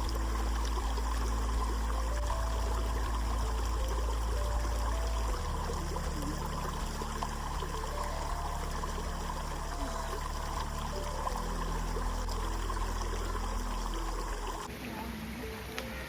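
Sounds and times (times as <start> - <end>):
soft background music: 0.0 - 16.0
stream water running: 0.0 - 16.0.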